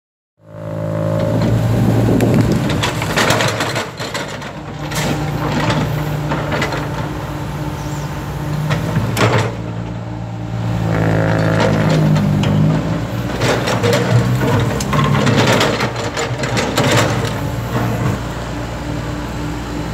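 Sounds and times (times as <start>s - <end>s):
excavator diesel engine under load: 0.4s - 19.9s.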